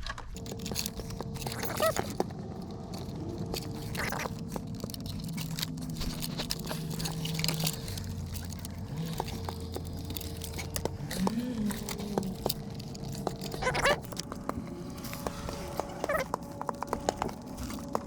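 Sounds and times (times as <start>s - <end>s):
cable connectors clicking and scraping: 0.0s - 18.0s.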